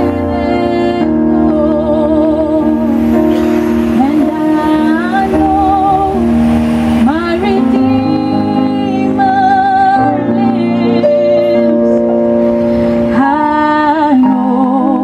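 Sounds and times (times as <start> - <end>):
woman singing through pa: 0.0 - 3.0, 3.9 - 6.3, 7.0 - 12.2, 13.1 - 15.0
sustained chordal backing: 0.0 - 15.0.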